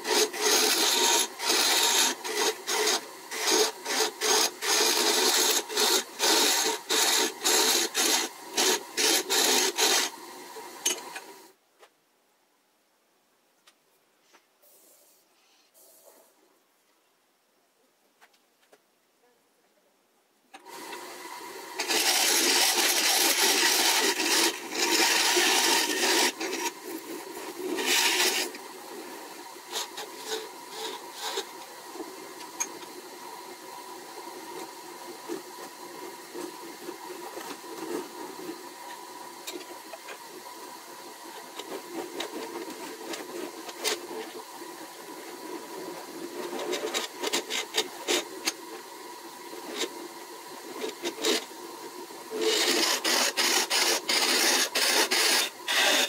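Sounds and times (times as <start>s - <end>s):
lathe tool hissing cut: 0.0s - 11.5s, 20.7s - 56.0s
faint motor hum: 0.0s - 11.6s, 20.6s - 56.0s.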